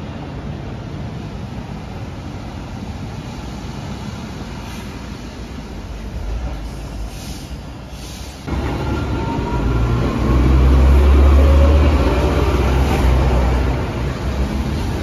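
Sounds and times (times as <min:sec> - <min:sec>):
street noise on wet roads: 0:00.0 - 0:15.0
tram rumbling on track: 0:00.0 - 0:15.0.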